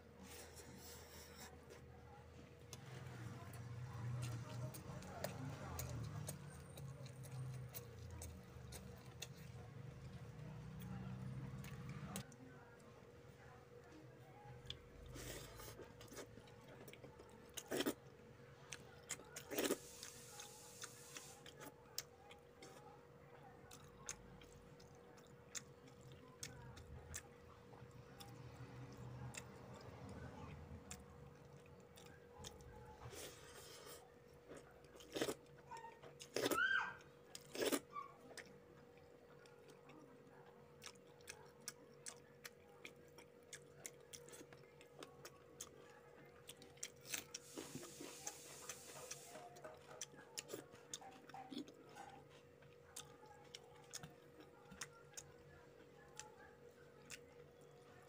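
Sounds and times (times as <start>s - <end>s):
chewing with wet lip smacks: 3.9s - 12.4s, 14.6s - 33.4s, 37.2s - 58.0s.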